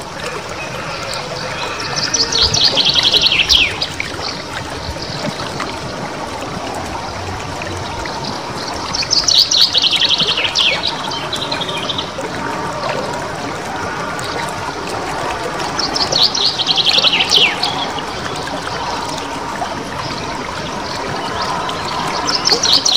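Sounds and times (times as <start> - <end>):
trickle of running water: 0.0 - 22.9.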